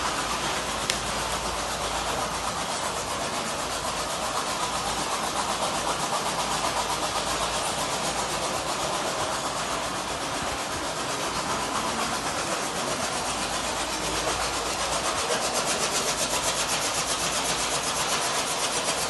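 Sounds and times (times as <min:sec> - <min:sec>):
machine running steadily: 0:00.0 - 0:19.0.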